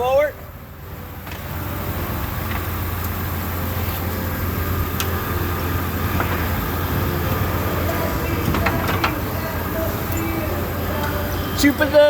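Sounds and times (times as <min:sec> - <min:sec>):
vehicle engine running at low revs: 0:00.4 - 0:12.0.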